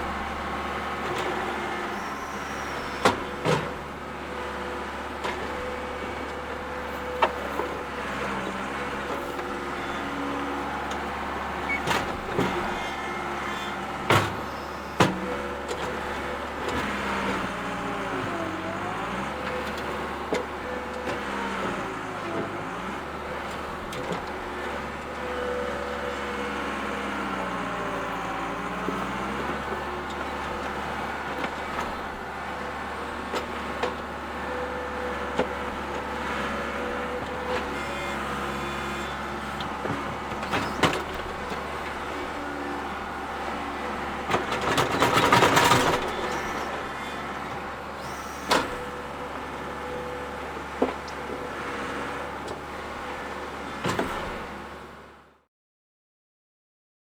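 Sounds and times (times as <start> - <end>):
skid-steer loader engine running: 0.0 - 55.4.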